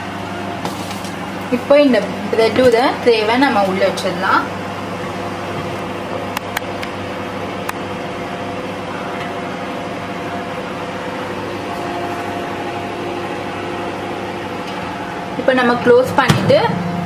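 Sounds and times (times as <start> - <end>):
oven fan hum: 0.0 - 17.0.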